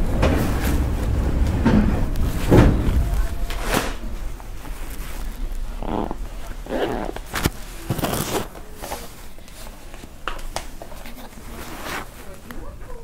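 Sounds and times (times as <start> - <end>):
passengers shuffling and rustling: 0.0 - 13.0.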